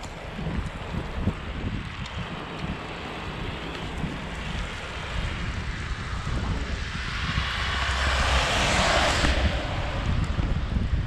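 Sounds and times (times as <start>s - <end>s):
car tyres hissing on wet road: 0.0s - 11.0s
wind rumbling on microphone: 0.0s - 11.0s.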